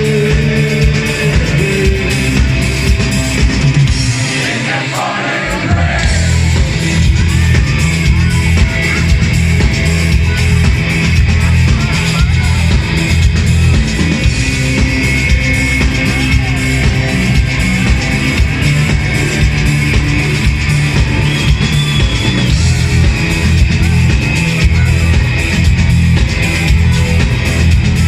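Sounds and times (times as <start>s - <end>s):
amplified electric guitars: 0.0s - 28.0s
drum kit: 0.0s - 28.0s.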